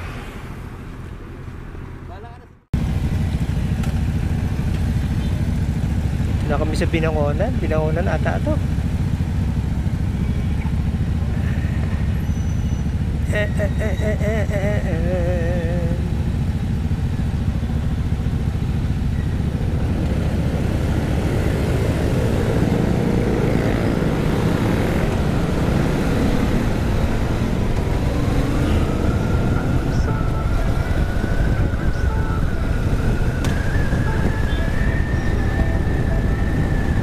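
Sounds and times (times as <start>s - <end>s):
motorcycle engine: 0.0s - 37.0s
traffic noise: 0.0s - 37.0s.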